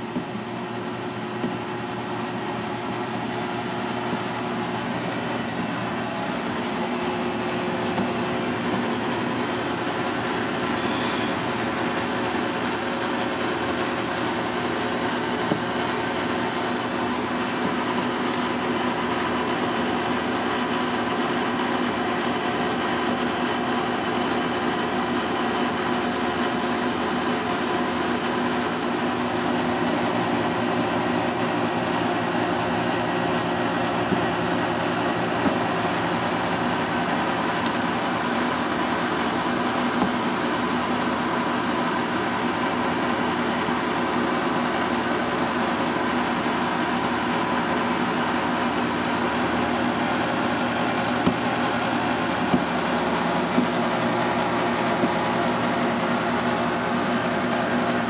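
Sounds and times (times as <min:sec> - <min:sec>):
ventilation machinery hum: 0:00.0 - 0:58.0.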